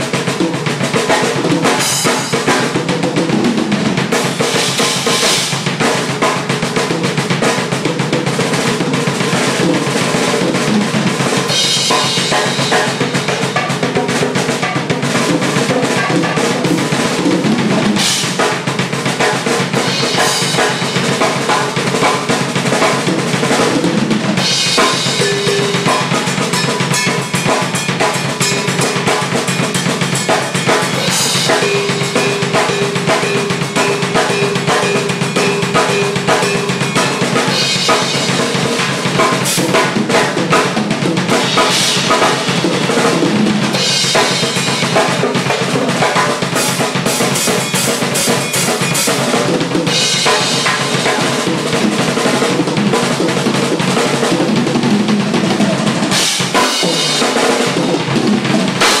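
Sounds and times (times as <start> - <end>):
drum kit solo: 0.0 - 59.0.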